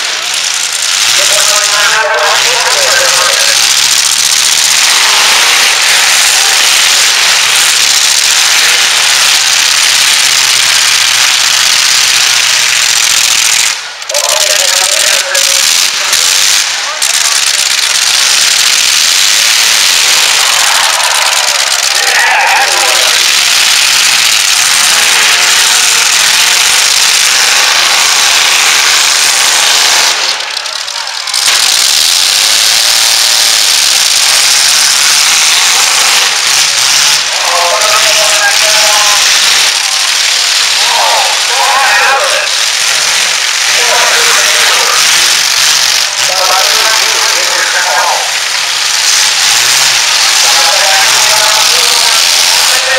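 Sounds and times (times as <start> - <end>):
truck engines running loud: 0.0 - 52.9.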